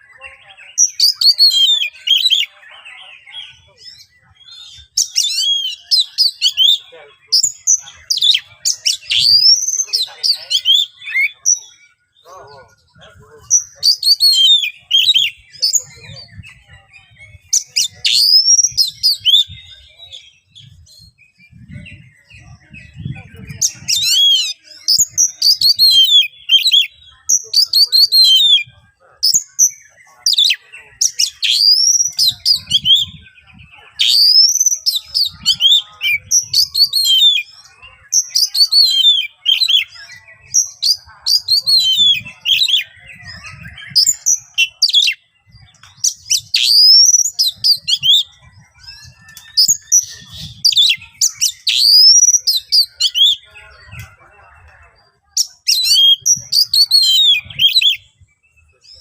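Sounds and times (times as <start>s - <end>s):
bird singing harsh whistles: 3.4s - 11.9s, 13.5s - 16.6s, 17.3s - 21.2s, 21.8s - 45.2s, 45.8s - 53.5s, 55.3s - 58.1s.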